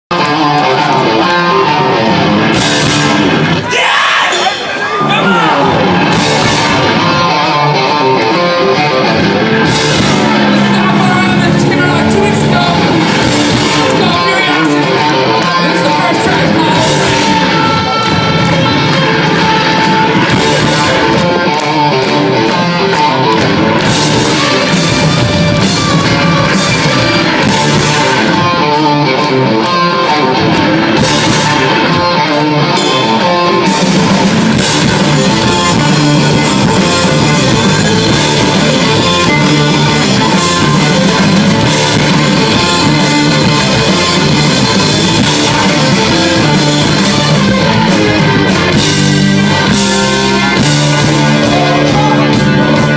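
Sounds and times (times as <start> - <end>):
drum kit: 0.1 - 52.9
guitar riffs: 0.1 - 52.9
hard rock band playing: 0.1 - 52.9.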